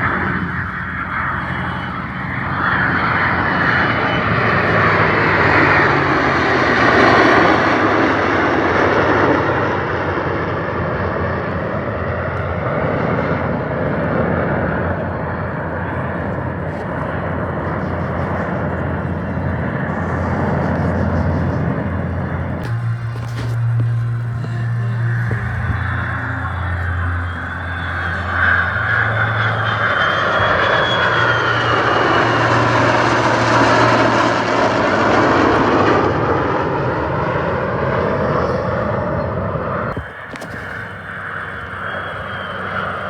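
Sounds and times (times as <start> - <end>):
aircraft engines flying past: 0.0 - 43.0.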